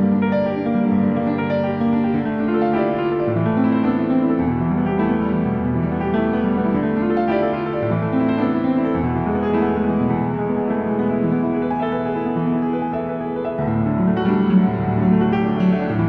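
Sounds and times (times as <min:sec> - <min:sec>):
slow calm piano music: 0:00.0 - 0:16.0.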